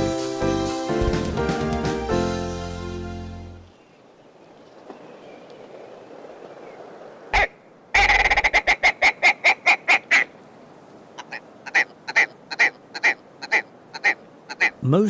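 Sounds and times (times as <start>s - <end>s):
quiet wetland background: 0.0s - 15.0s
wild bird calling: 0.9s - 14.9s.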